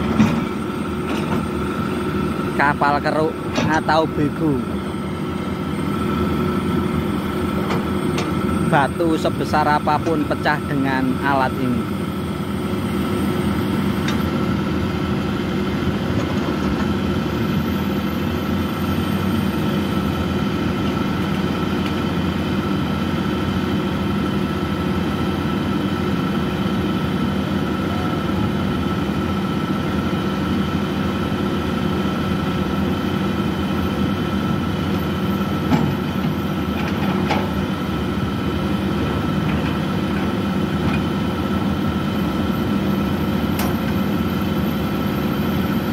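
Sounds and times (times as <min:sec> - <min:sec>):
excavator diesel engine running: 0:00.0 - 0:45.9
steady whine: 0:00.0 - 0:45.9.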